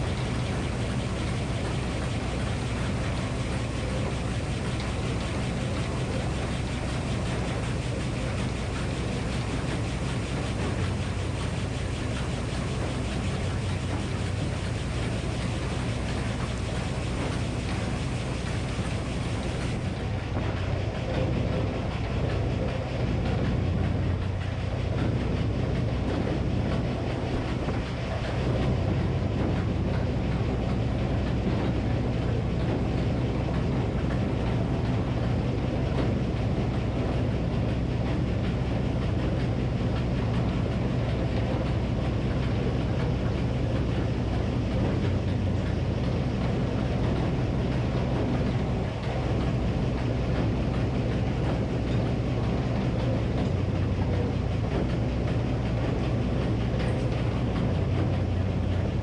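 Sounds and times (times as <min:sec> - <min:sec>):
circular sawmill: 0:00.0 - 0:59.0
engine running steadily: 0:00.0 - 0:59.0.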